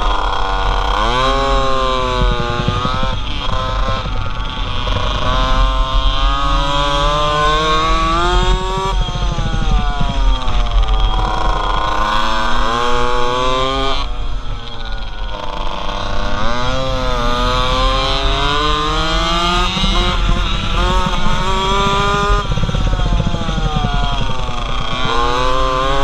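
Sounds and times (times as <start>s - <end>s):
small motorcycle engine revving: 0.0s - 26.0s
wind rumble on microphone: 0.0s - 26.0s.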